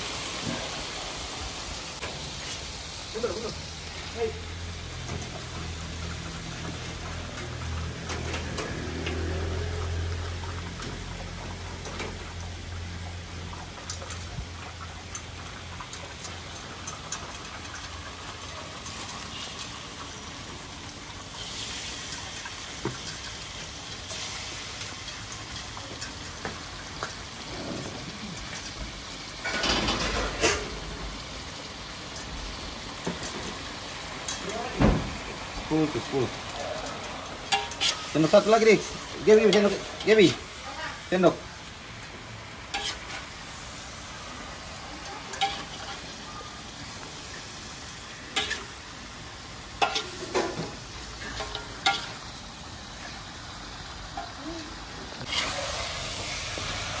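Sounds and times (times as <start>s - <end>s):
chicken bones sizzling in a wok: 0.0s - 57.0s.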